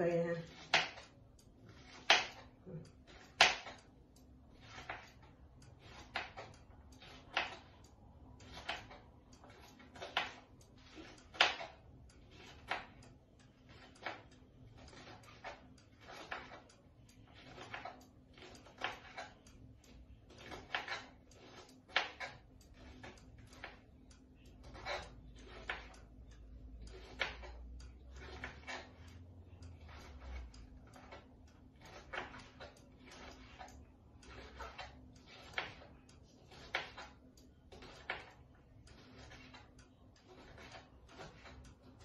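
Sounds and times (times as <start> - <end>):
knife slicing bean pods: 0.4 - 3.9, 4.5 - 13.0, 13.6 - 16.7, 17.3 - 19.4, 20.3 - 23.8, 24.5 - 33.7, 34.3 - 37.2, 37.8 - 42.0.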